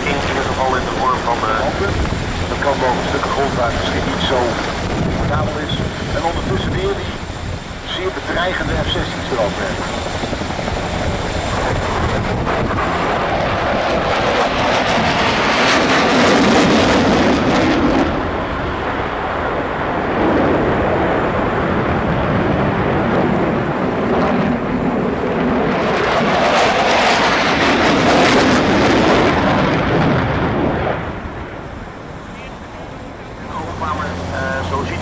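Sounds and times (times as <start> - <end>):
fighter jets passing overhead: 0.0 - 35.0.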